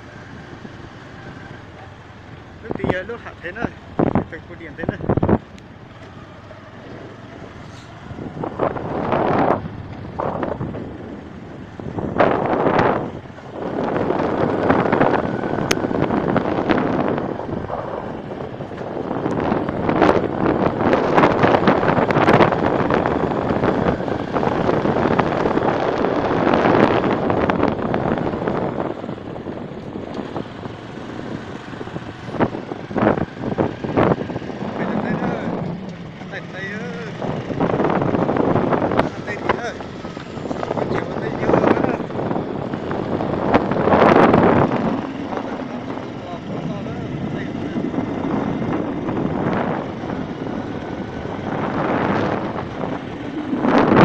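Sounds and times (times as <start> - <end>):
small motorcycle running: 0.0 - 54.0
wind rushing over microphone: 0.0 - 54.0.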